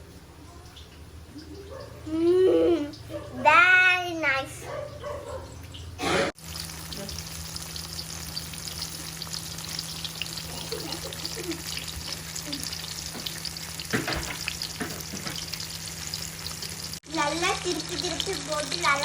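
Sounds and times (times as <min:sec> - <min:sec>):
deep-frying in hot oil: 0:00.0 - 0:04.6, 0:05.5 - 0:19.0.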